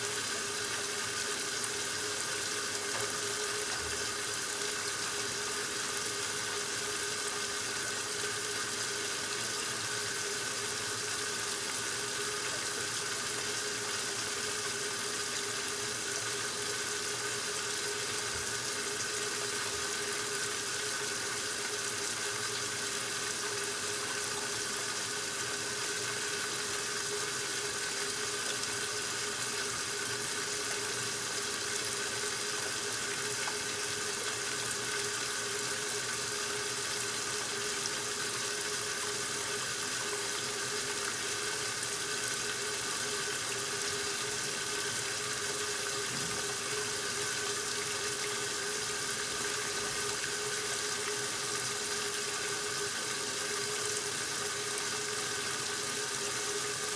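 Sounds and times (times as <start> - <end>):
washing machine hum: 0.0 - 56.9
water running into tub: 0.1 - 56.8.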